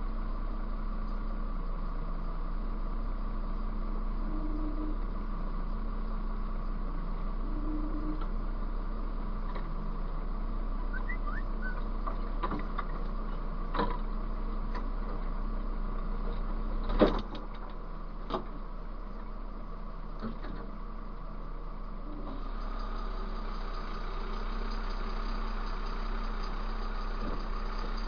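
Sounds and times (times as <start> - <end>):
diesel truck engine idling: 0.0 - 16.8, 17.8 - 28.0.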